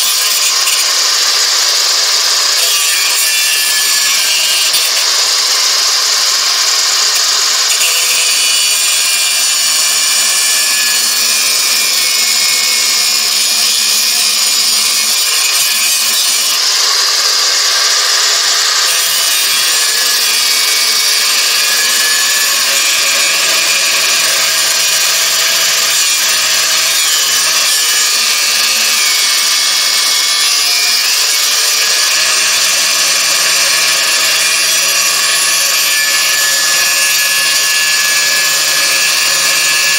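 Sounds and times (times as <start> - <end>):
angle grinder cutting steel: 0.0 - 39.9.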